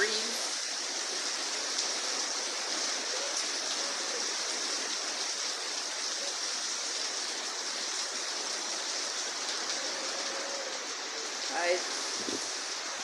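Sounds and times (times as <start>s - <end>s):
rain in strong wind: 0.0s - 13.0s.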